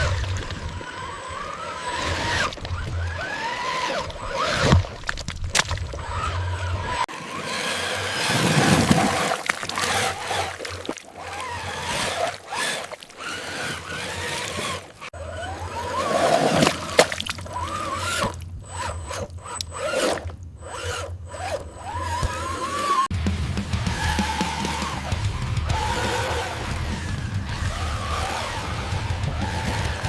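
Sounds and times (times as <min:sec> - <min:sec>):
toy truck motor whine: 0:00.0 - 0:04.8, 0:06.0 - 0:23.1, 0:23.8 - 0:30.0.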